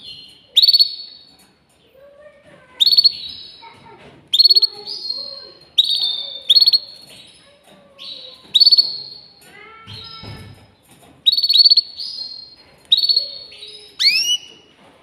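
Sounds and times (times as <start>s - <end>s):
canary singing: 0.0s - 14.8s.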